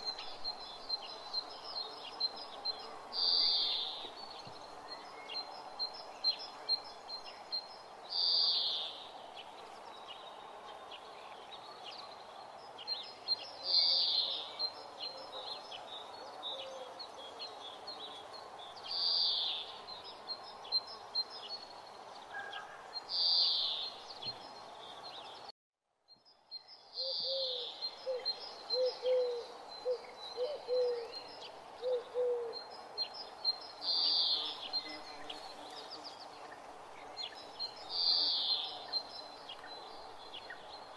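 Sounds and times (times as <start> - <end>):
steady background hiss: 0.0 - 25.5, 26.3 - 40.9.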